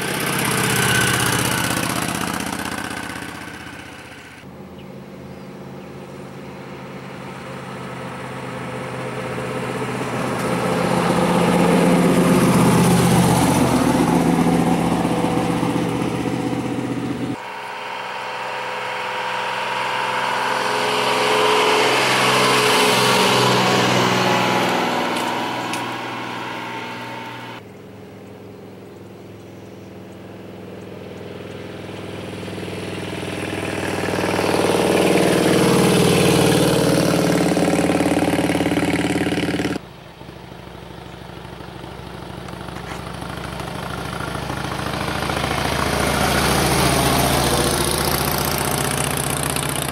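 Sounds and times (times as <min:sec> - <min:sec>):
diesel truck driving past: 0:00.0 - 0:49.9
motorcycle driving past: 0:00.0 - 0:49.9
sports car engine driving past: 0:00.0 - 0:49.9.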